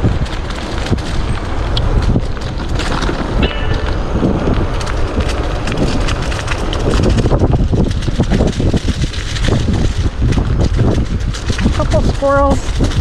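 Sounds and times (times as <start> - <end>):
tyres rolling over dry leaves: 0.0 - 13.0
wind buffeting microphone: 0.0 - 13.0.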